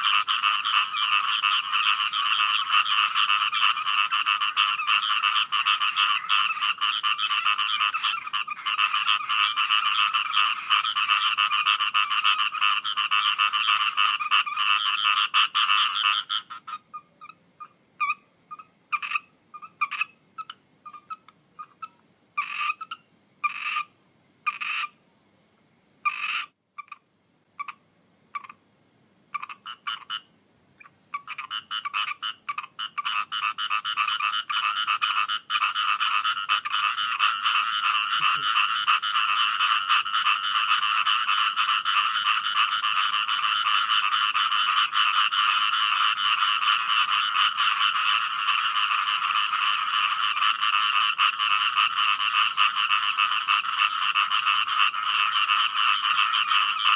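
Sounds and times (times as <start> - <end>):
single frog croaks: 0.0 - 25.1, 25.9 - 56.9
frog chorus: 0.0 - 56.9.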